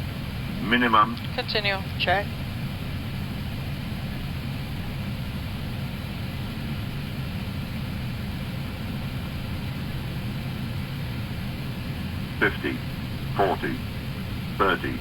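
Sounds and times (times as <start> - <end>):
airflow and engine rumble in cockpit: 0.0 - 15.0.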